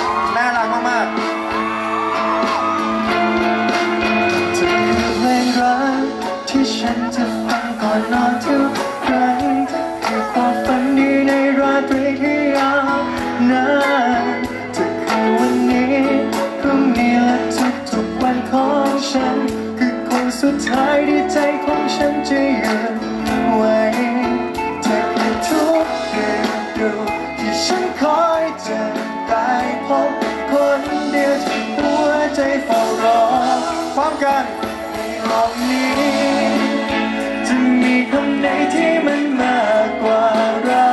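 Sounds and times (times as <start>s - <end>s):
band accompaniment: 0.0s - 40.9s
electric guitar: 0.0s - 40.9s
man singing pop song: 0.0s - 40.9s.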